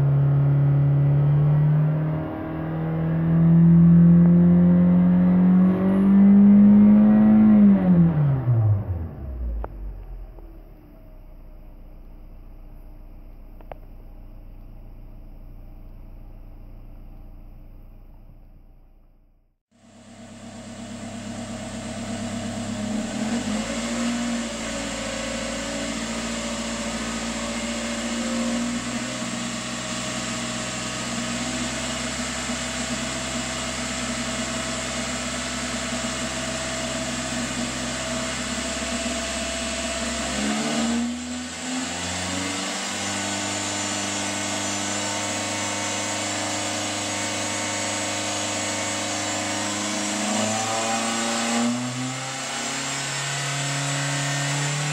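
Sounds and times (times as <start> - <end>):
car engine revving: 0.0 - 10.8, 20.3 - 54.9.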